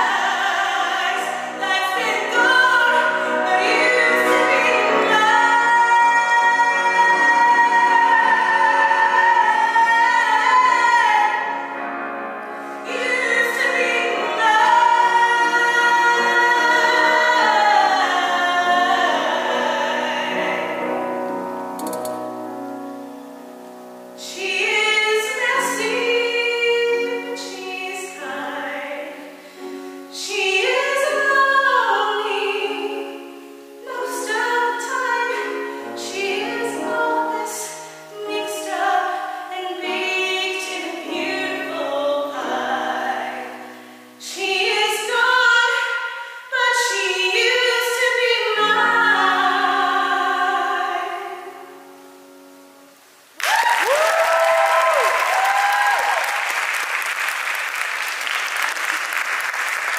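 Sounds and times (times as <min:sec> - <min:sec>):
woman singing with vibrato: 0:00.0 - 0:11.8, 0:12.6 - 0:21.2, 0:24.2 - 0:52.2
grand piano: 0:00.0 - 0:59.9.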